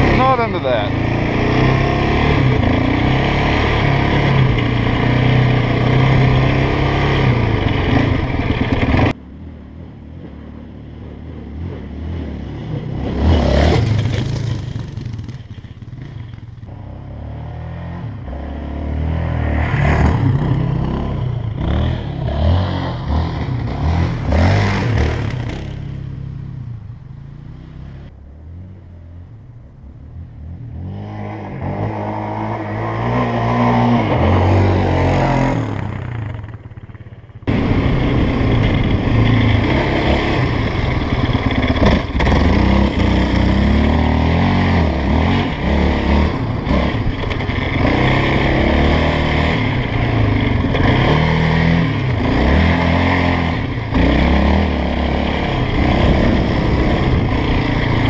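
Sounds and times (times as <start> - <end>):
quad bike engine revving: 0.0 - 9.2, 11.4 - 26.6, 30.7 - 58.0.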